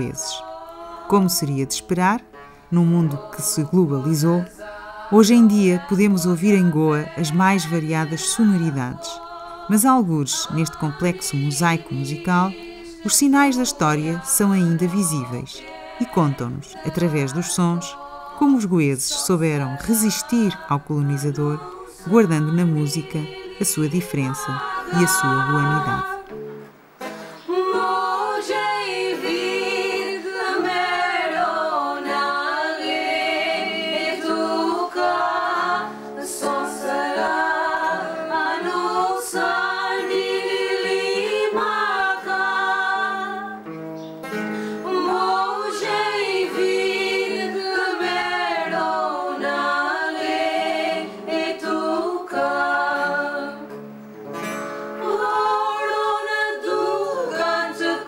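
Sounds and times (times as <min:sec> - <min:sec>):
voices singing: 0:00.0 - 0:26.4, 0:27.3 - 0:43.6, 0:44.6 - 0:53.8, 0:55.0 - 0:58.0.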